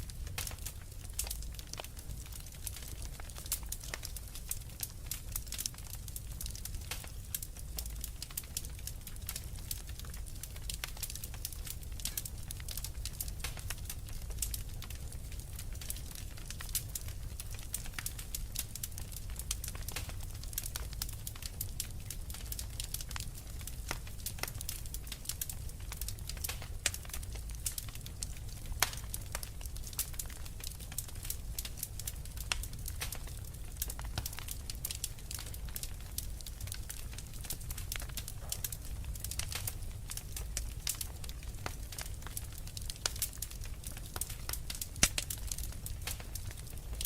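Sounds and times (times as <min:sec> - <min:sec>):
low fire rumble: 0:00.0 - 0:47.0
wood fire crackling and popping: 0:00.0 - 0:47.0.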